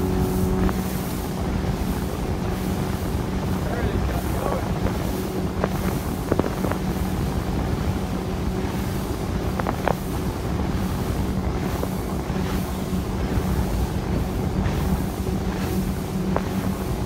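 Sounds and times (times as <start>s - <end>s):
motorboat engine drone: 0.0s - 17.0s
water along hull: 0.0s - 17.0s
wind buffeting microphone: 0.0s - 17.0s.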